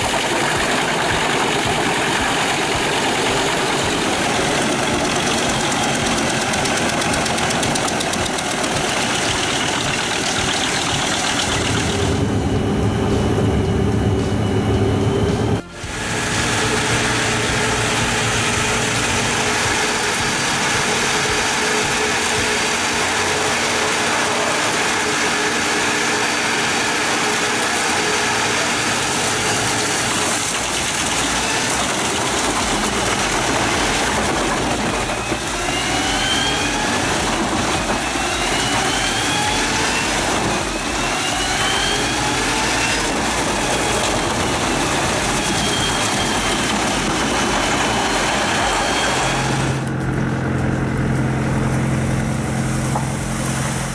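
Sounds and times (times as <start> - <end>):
heavy machine engine revving: 0.0 - 53.9.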